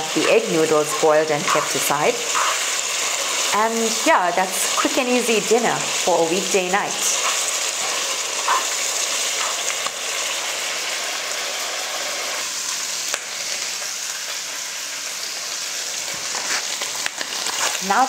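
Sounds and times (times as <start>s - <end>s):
chicken sizzling in a wok: 0.0s - 18.0s.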